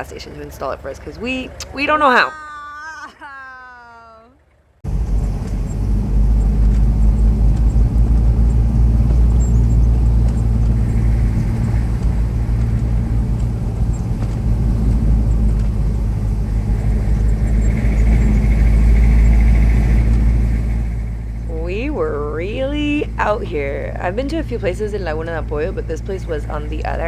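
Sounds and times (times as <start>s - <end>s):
car interior road and engine rumble: 0.0s - 27.0s.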